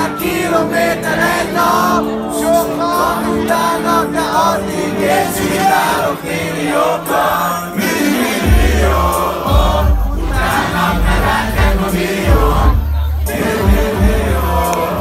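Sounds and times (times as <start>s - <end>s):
crowd noise: 0.0s - 15.0s
hip-hop music through a pa: 0.0s - 15.0s
man singing: 0.0s - 15.0s.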